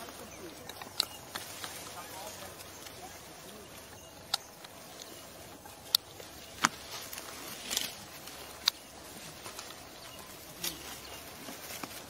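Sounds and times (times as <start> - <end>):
dry leaves and twigs snapping: 0.0 - 12.0
steady outdoor hiss: 0.0 - 12.0.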